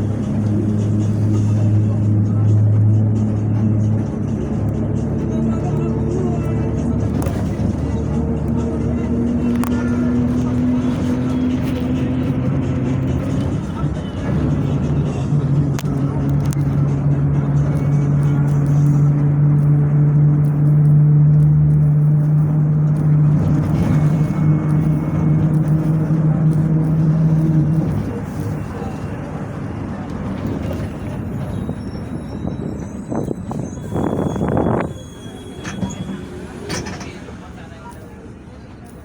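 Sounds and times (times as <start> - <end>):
bus diesel engine droning: 0.0 - 39.0.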